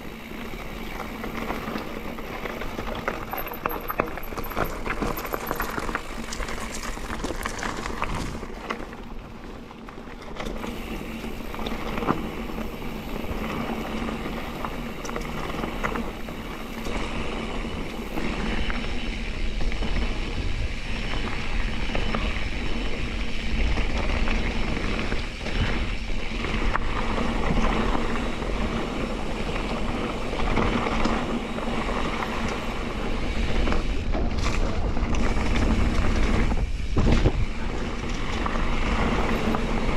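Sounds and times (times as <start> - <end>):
bike knocking and rattling: 0.0 - 39.9
bike tyres rolling on dirt: 0.0 - 39.9
wind rumbling on microphone: 0.0 - 39.9.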